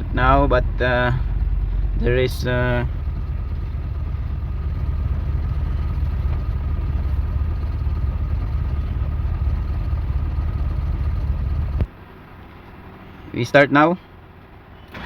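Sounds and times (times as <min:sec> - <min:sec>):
car engine idling: 0:00.0 - 0:15.0
engine stalling: 0:00.0 - 0:15.0.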